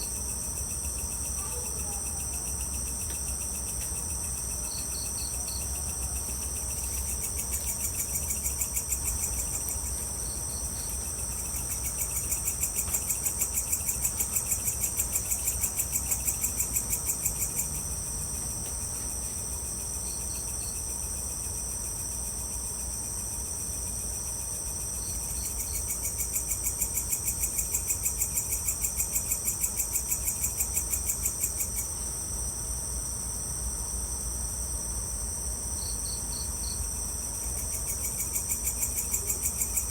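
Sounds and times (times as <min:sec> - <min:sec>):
pulsing insect trill: 0:00.0 - 0:33.3, 0:33.9 - 0:39.9
crickets high-pitched ringing: 0:00.0 - 0:39.9.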